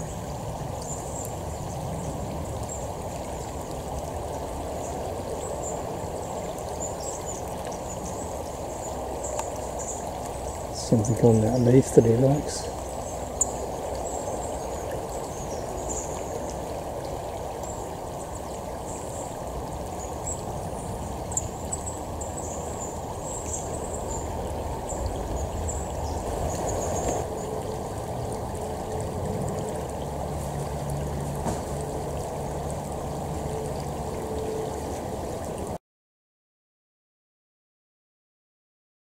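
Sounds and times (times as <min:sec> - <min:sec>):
creek flowing over rocks: 0:00.0 - 0:35.8.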